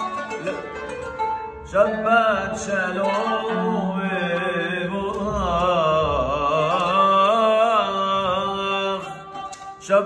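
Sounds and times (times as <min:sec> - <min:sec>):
qanun plucking: 0:00.0 - 0:10.0
man singing ornamented melody: 0:01.6 - 0:10.0.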